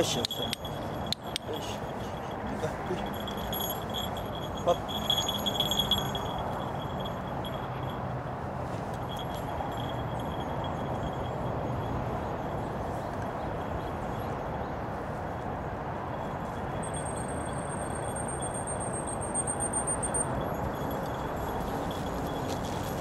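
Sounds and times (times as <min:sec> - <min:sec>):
urban traffic rumble: 0:00.0 - 0:23.0.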